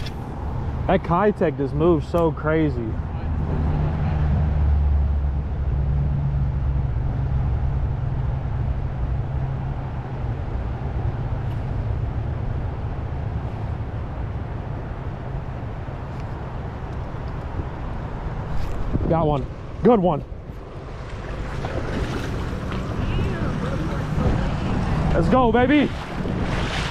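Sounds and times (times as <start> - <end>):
low rumbling noise: 0.0 - 26.9.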